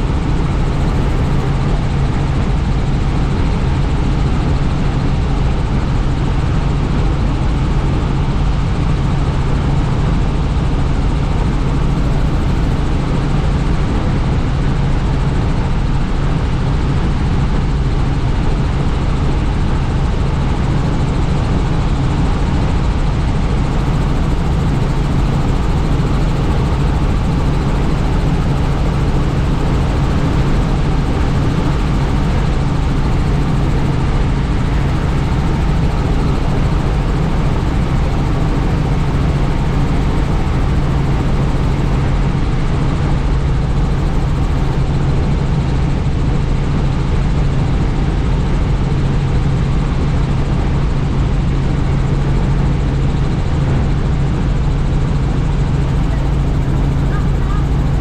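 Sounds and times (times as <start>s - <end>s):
helicopter rotor and engine hum: 0.0s - 58.0s
wind noise: 0.0s - 58.0s.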